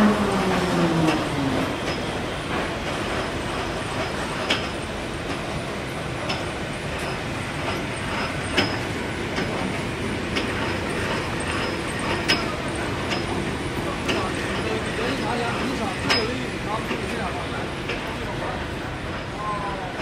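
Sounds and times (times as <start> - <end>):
peeling lathe and conveyor din: 0.0 - 20.0.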